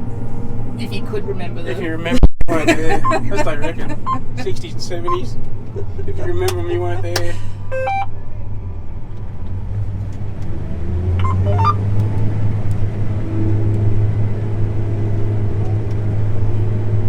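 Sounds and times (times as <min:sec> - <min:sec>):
combine harvester droning: 0:00.0 - 0:09.7, 0:10.6 - 0:17.0.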